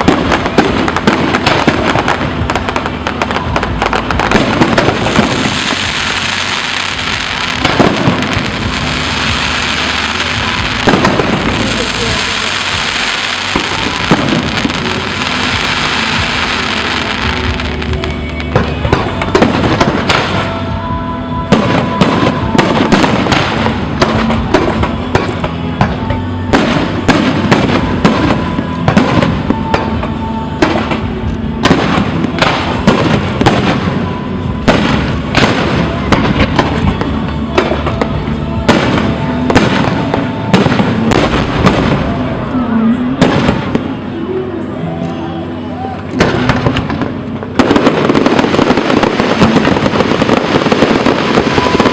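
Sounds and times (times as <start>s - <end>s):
fireworks exploding: 0.0s - 51.9s
music playing: 0.0s - 51.9s.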